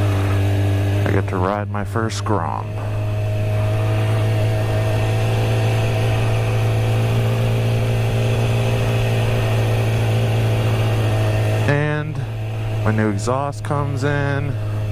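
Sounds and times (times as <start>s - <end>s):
motorcycle engine cruising: 0.0s - 14.9s.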